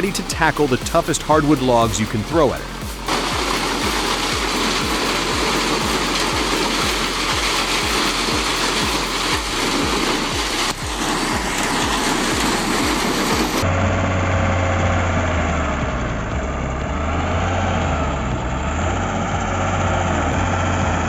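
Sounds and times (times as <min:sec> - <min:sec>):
heavy engine droning: 0:00.0 - 0:21.0
wood chipper grinding: 0:01.5 - 0:21.0.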